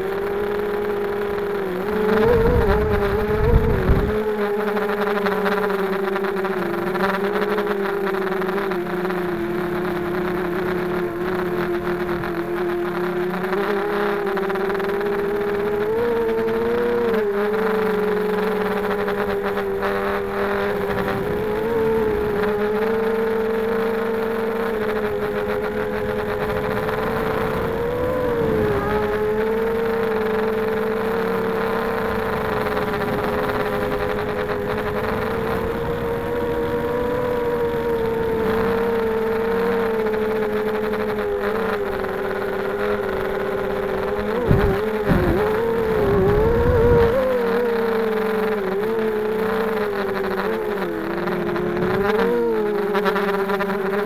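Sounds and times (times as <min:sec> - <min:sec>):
quadcopter motors buzzing whine: 0:00.0 - 0:54.0.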